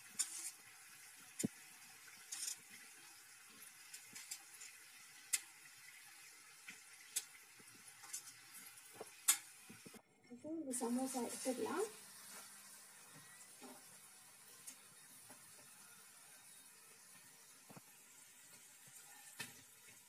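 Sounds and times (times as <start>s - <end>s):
oil sizzling: 0.0s - 10.0s, 10.7s - 20.0s.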